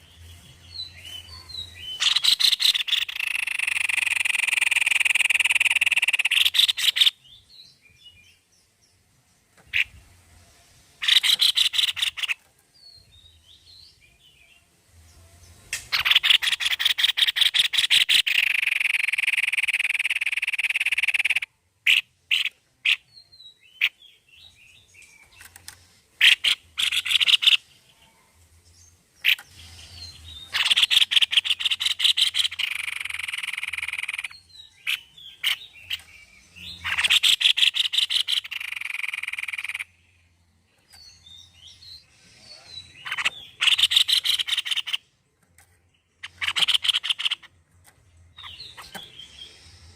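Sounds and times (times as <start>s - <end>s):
bird singing rattling trills: 0.0s - 8.9s, 11.0s - 14.4s, 15.4s - 27.7s, 28.7s - 45.2s, 45.8s - 49.9s.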